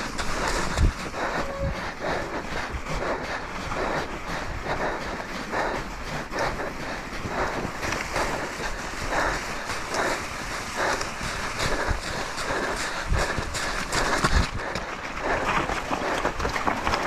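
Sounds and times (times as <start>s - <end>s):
bike tyres crunching through snow: 0.0s - 3.9s, 4.7s - 17.0s
wind buffeting microphone: 0.0s - 17.0s.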